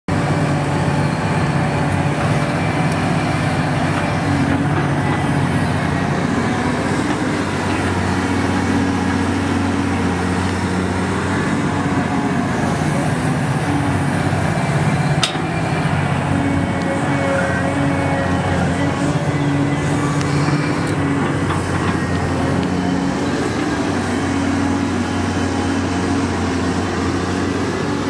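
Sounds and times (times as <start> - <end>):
excavator diesel engine running: 0.1 - 28.0.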